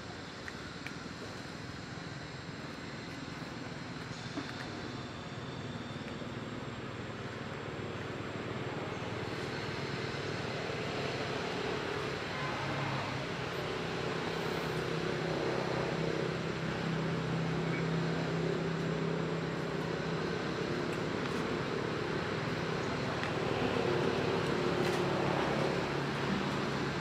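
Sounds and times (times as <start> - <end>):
low engine hum: 0.0 - 27.0
outdoor noise: 0.0 - 27.0.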